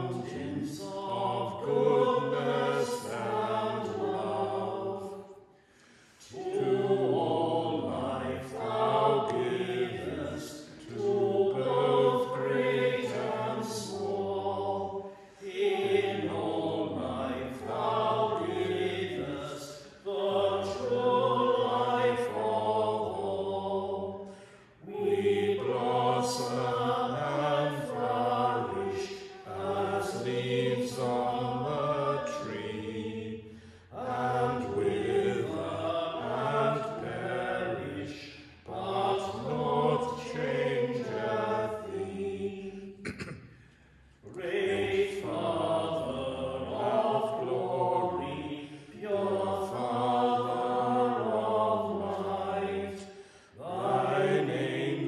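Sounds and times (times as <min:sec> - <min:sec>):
hymn singing: 0:00.0 - 0:43.4, 0:44.2 - 0:55.0.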